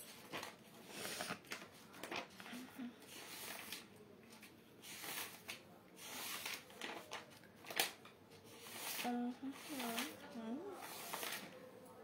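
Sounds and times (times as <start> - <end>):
rustling handling noise: 0.0 - 11.6.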